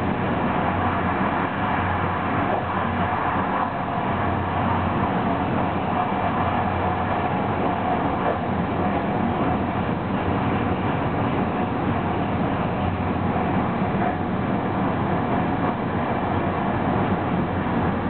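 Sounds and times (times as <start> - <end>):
air rushing past train: 0.0 - 18.0
train wheels rumbling on rails: 0.0 - 18.0.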